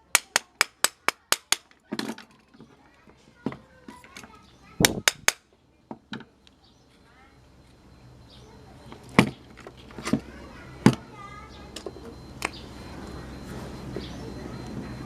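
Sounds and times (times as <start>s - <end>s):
faint high chirps: 2.3s - 15.0s.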